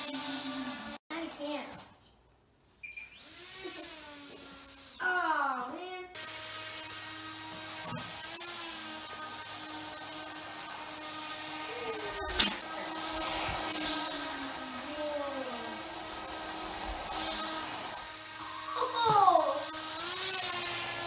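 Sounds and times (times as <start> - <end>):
electric motor whining buzz: 0.0 - 1.0, 3.0 - 5.1, 6.2 - 21.0.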